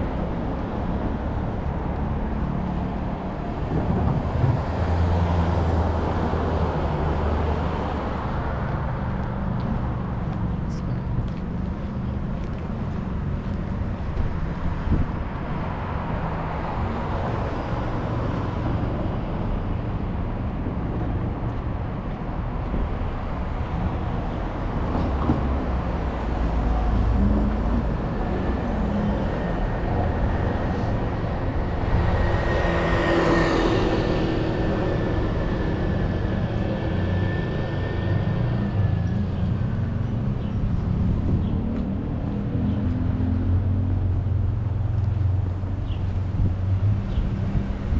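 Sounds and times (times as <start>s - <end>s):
traffic engines rumbling: 0.0s - 47.9s.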